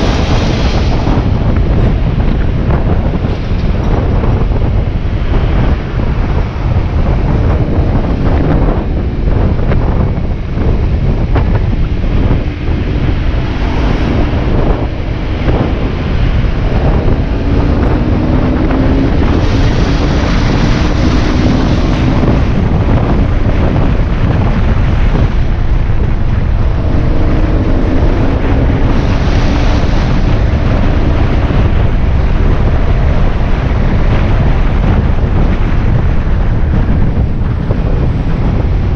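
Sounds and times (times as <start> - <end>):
motorbike engine: 0.0 - 38.9
wind buffeting microphone: 0.0 - 38.9.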